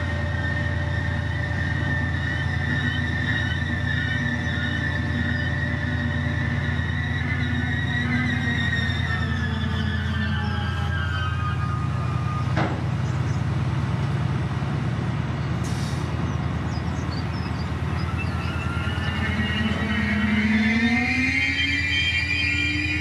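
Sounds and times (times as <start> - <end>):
train engine droning: 0.0 - 23.0.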